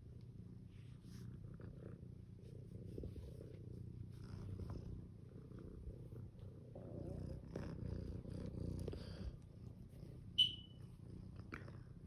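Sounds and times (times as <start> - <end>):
cat purring: 0.2 - 12.0.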